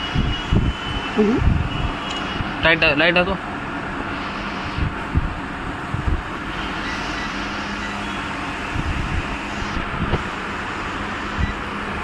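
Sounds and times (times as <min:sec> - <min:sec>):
steady whirr with low hum: 0:00.2 - 0:12.0.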